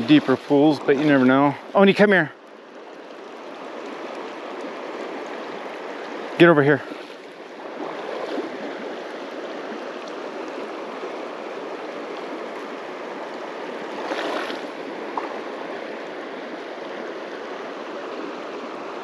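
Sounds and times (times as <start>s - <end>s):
creek flowing over stones: 0.0s - 19.0s.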